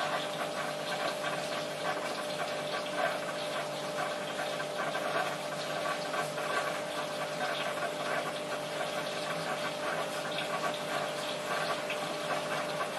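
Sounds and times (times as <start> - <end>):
pump hum: 0.0 - 12.9
water running and splashing: 0.0 - 12.9.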